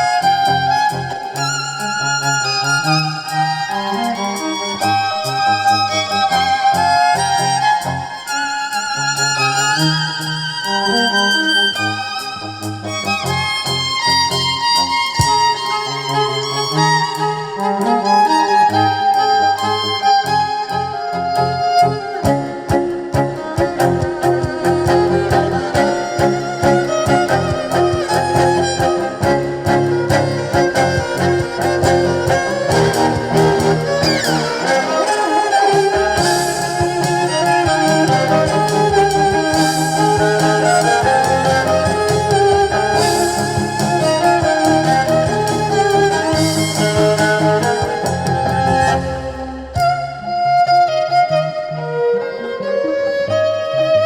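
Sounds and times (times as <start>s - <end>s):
live band music: 0.0s - 51.4s
bowed string lead: 0.0s - 54.0s.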